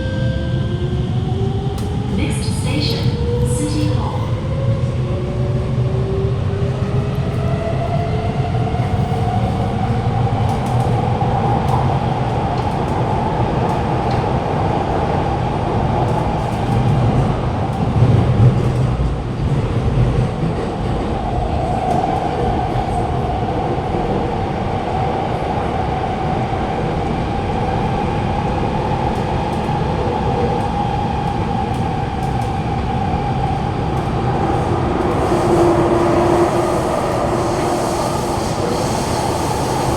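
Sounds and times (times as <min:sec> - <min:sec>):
wheels rumbling on rail: 0:04.5 - 0:39.9.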